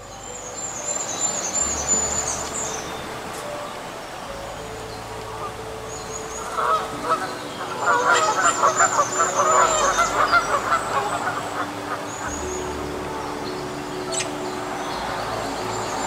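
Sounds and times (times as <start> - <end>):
waterfowl calling: 1.6 - 16.0.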